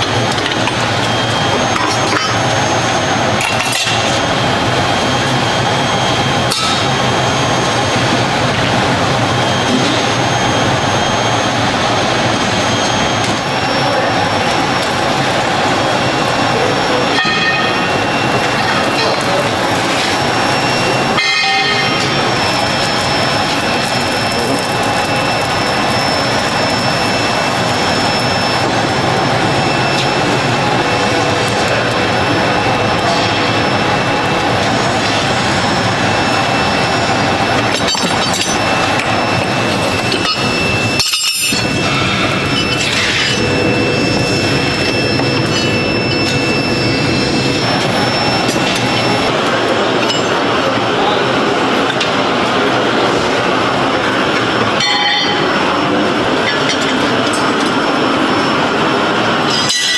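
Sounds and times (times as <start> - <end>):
faint high whine: 0.0 - 59.9
workshop machine noise: 0.0 - 59.9.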